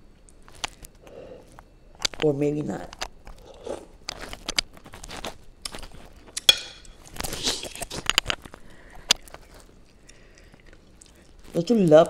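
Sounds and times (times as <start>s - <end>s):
person chewing food: 0.1s - 2.2s, 3.0s - 11.8s.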